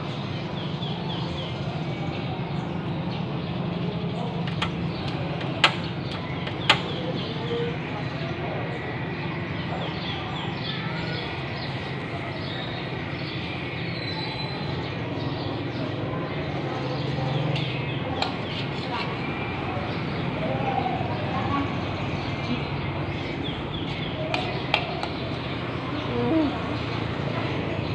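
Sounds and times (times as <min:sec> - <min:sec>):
small birds chirping: 0:00.1 - 0:27.9.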